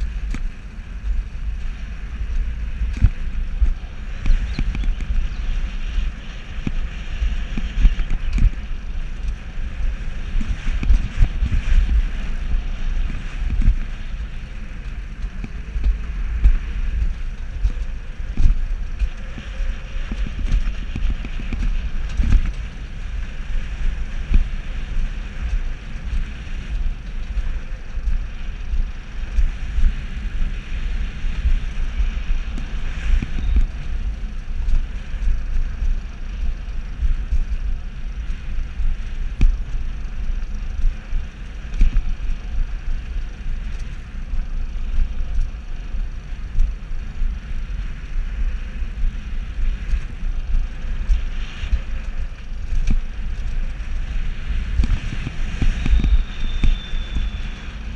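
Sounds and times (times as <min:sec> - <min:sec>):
sled wheels rumbling on rails: 0:00.0 - 0:57.9
wind on microphone: 0:00.0 - 0:57.9.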